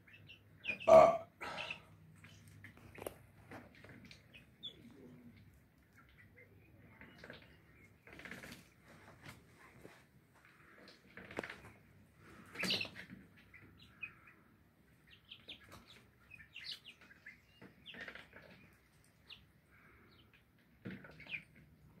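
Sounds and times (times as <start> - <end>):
chicks cheeping: 0.0 - 3.2, 3.8 - 8.6, 12.3 - 22.0.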